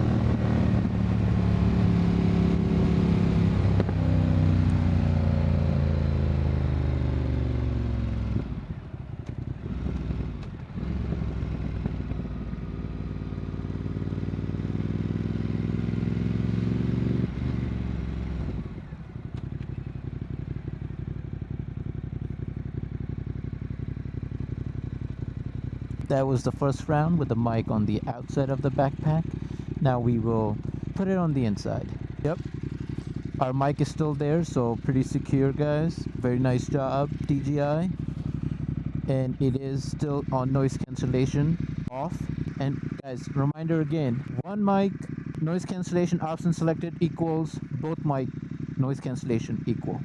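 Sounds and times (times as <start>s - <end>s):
motorcycle engine: 0.0s - 50.0s.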